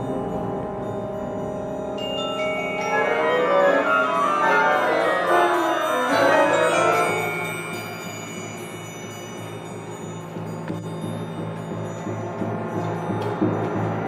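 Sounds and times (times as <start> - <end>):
orchestral music with mallet percussion: 0.0 - 14.0.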